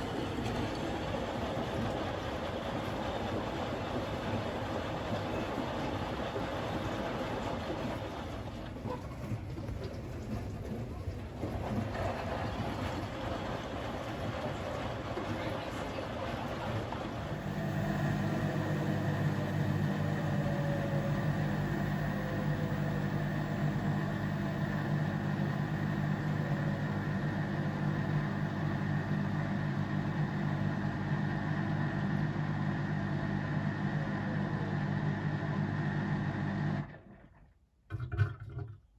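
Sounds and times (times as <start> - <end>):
washing machine motor hum: 0.0 - 37.4.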